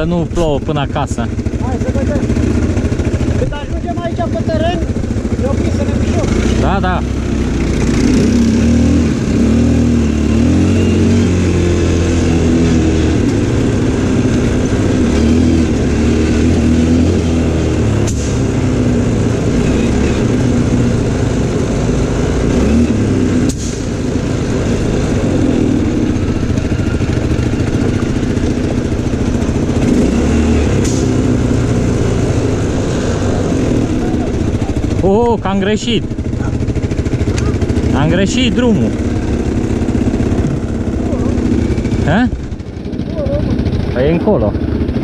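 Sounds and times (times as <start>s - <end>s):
atv engines revving: 0.0s - 45.0s.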